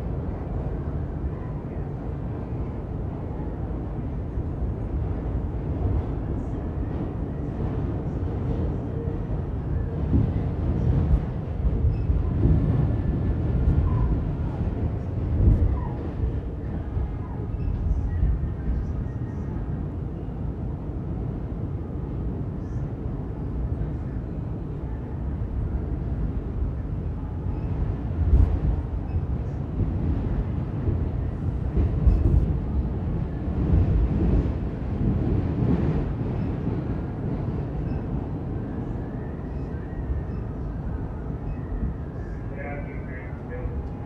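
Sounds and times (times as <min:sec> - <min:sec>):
subway car wheels rumbling on rail: 0:00.0 - 0:44.0.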